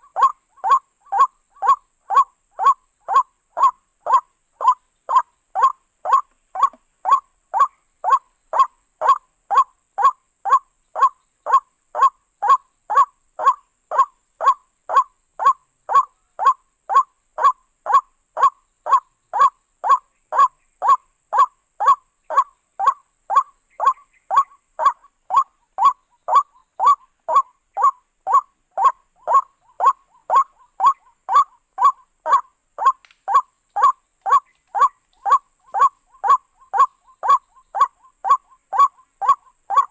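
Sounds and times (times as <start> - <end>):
waterhen call: 0.0 - 39.9.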